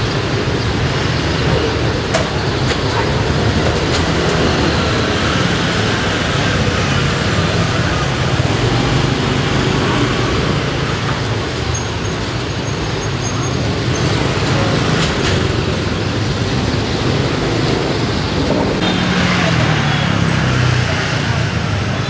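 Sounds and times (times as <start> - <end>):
motorbikes passing: 0.0 - 22.0
street traffic: 0.0 - 22.0.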